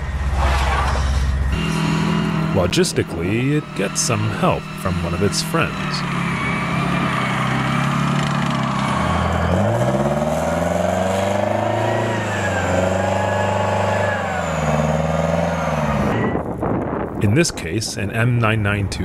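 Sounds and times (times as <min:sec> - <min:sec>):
tracked vehicle engine running: 0:00.0 - 0:19.0.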